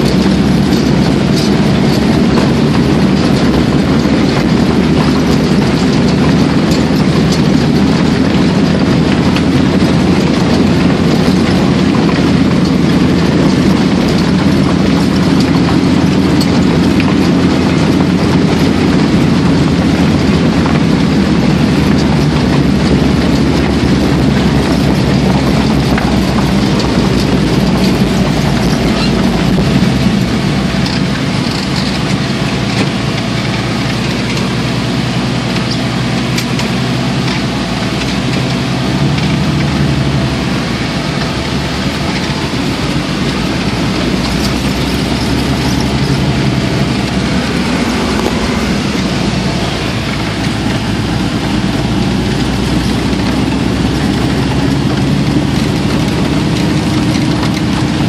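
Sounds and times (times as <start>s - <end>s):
drone of engine and tracks: 0.0s - 58.0s.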